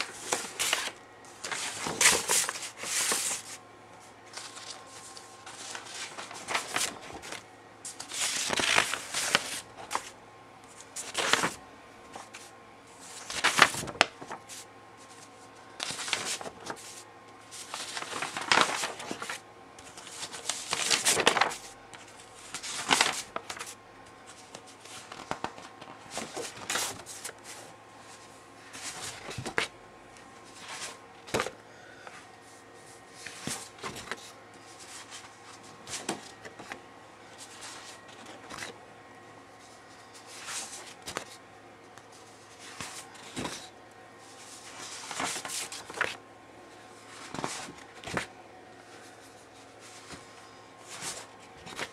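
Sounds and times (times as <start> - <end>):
paper sheets rustling: 0.0 - 31.6, 32.4 - 38.8, 39.6 - 41.4, 42.0 - 46.2, 46.9 - 48.3, 48.9 - 51.9.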